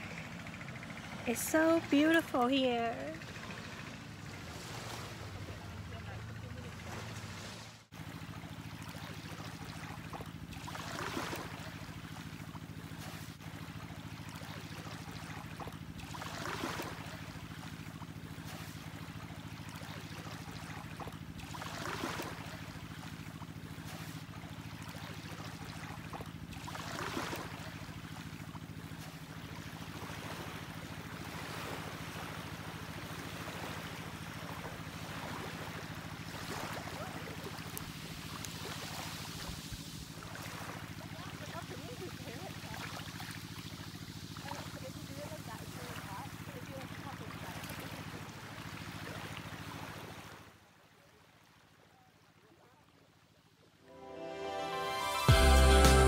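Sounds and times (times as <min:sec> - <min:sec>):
small waves washing on shore: 0:00.0 - 0:54.0.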